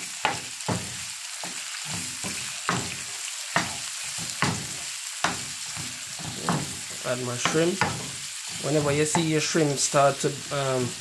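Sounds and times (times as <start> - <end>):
spatula scraping and knocking pan: 0.0 - 9.8
shrimp sizzling in oil: 0.0 - 11.0.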